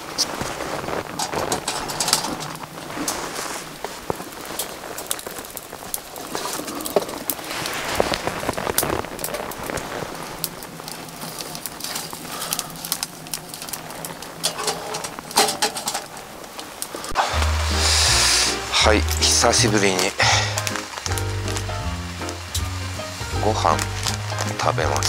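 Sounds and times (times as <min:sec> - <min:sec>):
rain falling: 0:00.0 - 0:25.0
raindrops tapping close by: 0:00.0 - 0:25.0.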